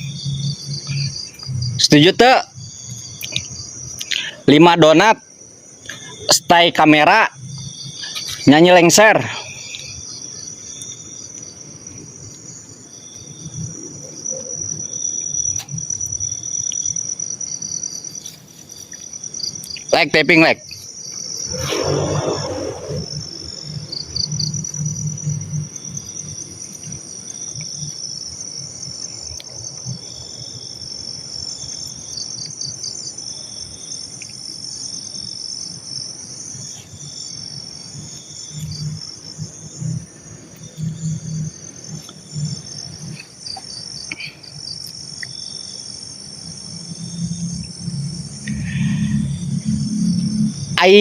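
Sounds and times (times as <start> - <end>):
insects trilling: 0.0 - 51.0
short insect chirp: 0.0 - 51.0.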